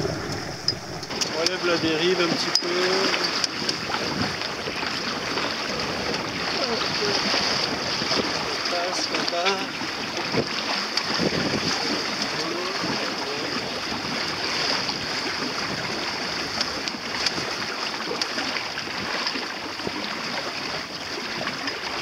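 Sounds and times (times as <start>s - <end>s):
water rushing against a hull: 0.0s - 22.0s
small splashes: 2.8s - 22.0s.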